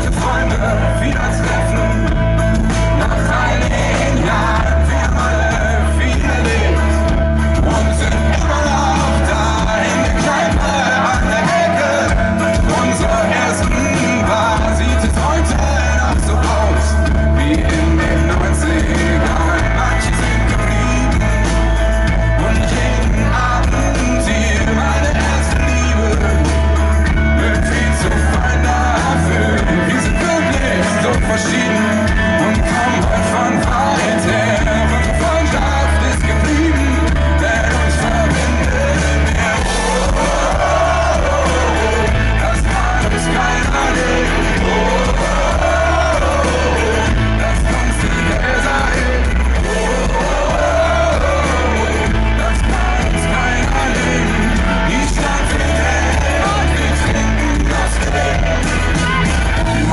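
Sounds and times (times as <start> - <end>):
lead singer singing: 0.0 - 59.9
live pop-rock band: 0.0 - 59.9
strong bass: 0.0 - 59.9.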